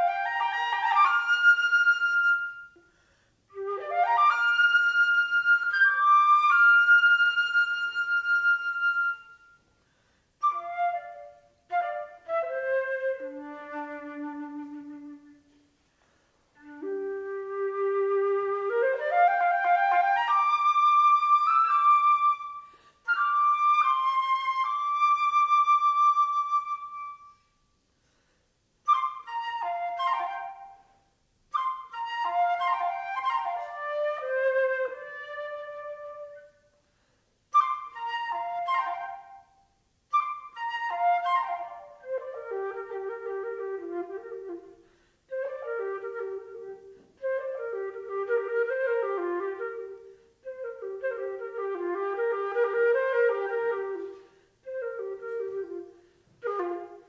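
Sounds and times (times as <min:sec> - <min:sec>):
solo flute playing: 0:00.0 - 0:57.0.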